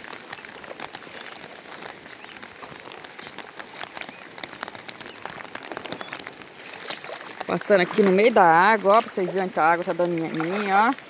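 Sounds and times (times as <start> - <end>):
rain falling steadily: 0.0 - 11.0.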